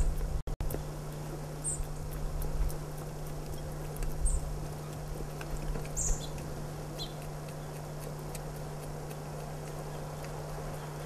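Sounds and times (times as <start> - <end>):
steady low hum: 0.0 - 11.0
deer licking a plate: 0.7 - 11.0.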